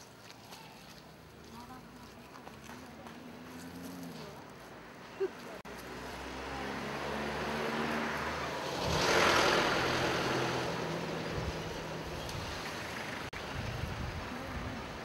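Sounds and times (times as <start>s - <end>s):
tyre and road noise: 0.0s - 15.0s
vehicle engine hum: 1.6s - 15.0s.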